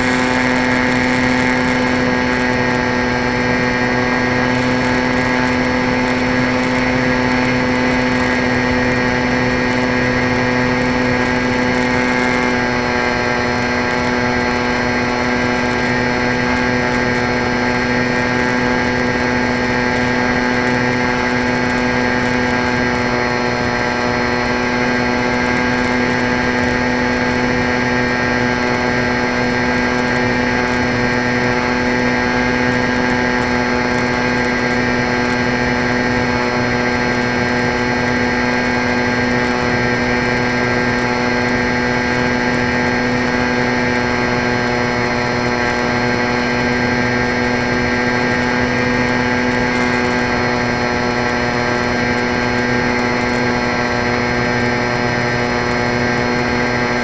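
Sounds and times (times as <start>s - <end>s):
rc plane motor whine: 0.0s - 57.0s.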